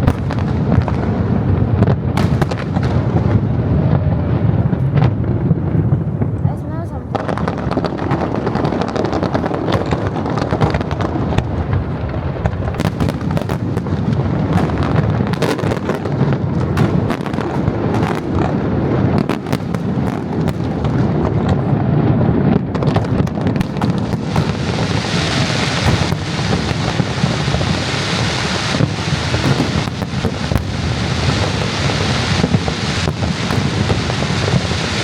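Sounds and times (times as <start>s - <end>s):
fireworks bursts and crackles: 0.0s - 35.0s.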